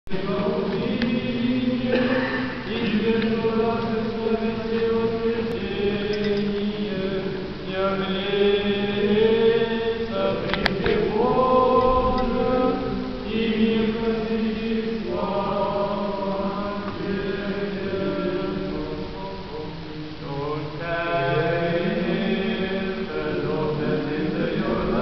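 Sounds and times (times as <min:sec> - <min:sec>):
group chanting: 0:00.1 - 0:25.0.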